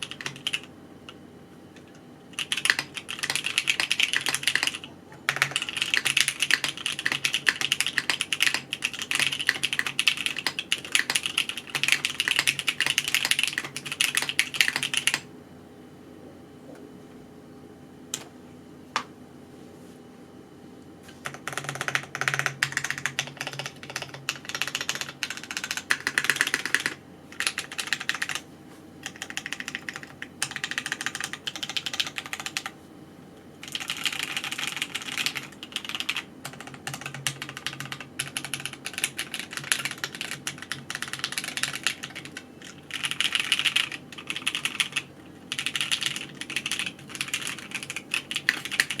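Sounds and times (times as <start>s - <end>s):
fast mechanical keyboard typing: 0.0s - 0.7s, 2.3s - 15.3s, 21.2s - 28.4s, 29.0s - 32.7s, 33.6s - 49.0s.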